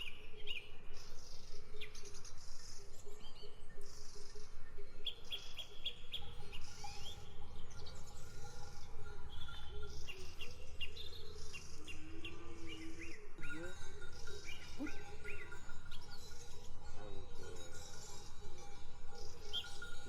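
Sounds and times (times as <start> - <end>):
songbirds chirping and trilling: 0.0 - 20.0.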